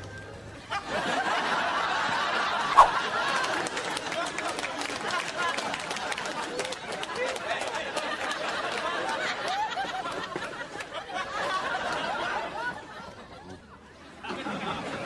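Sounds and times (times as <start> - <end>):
people laughing: 0.6 - 15.0.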